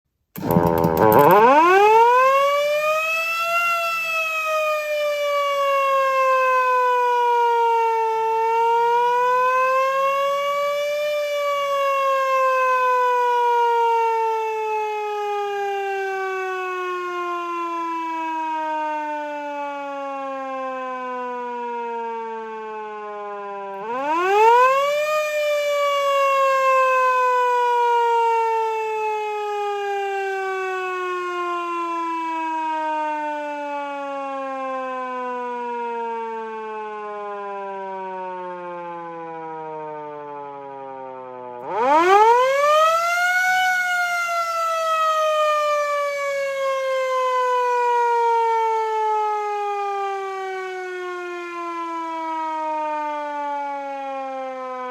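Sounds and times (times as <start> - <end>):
fire truck siren wailing: 0.4 - 54.9.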